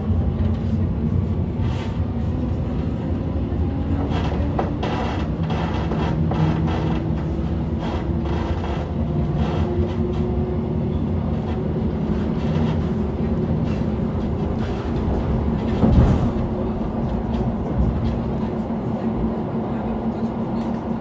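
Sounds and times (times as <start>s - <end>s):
low train jolt: 0.0s - 21.0s
train wheels rumbling on track: 0.0s - 21.0s.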